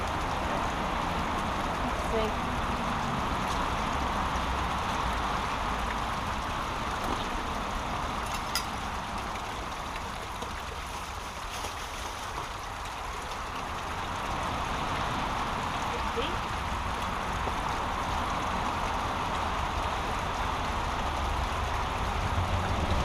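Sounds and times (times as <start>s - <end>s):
brook water rushing: 0.0s - 23.0s.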